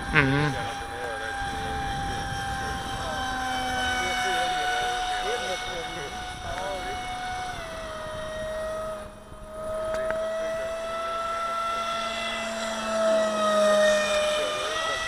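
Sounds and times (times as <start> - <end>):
model jet motor whining: 0.0 - 15.0.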